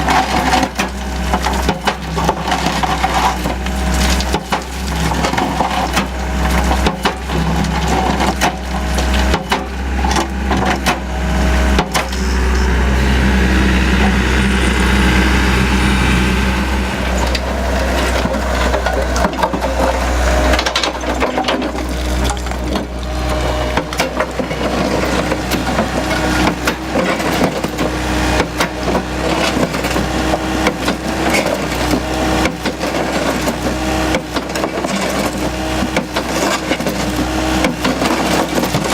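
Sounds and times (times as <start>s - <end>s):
crusher bucket cracking rubble: 0.0s - 12.2s, 17.2s - 38.9s
excavator diesel engine running: 0.0s - 38.9s.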